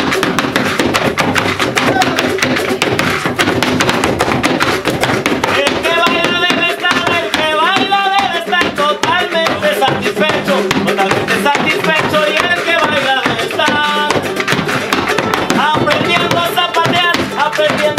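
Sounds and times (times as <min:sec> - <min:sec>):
rapid shoe taps and stamps: 0:00.0 - 0:17.9.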